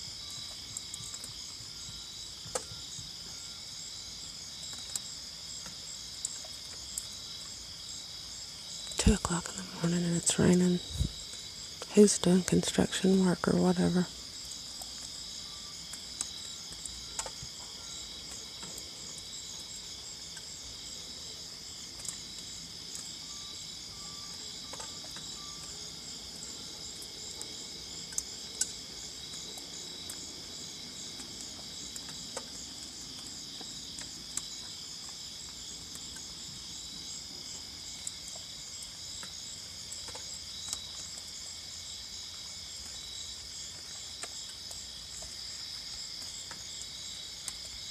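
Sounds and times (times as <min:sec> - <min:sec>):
night insects trilling: 0:00.0 - 0:47.9.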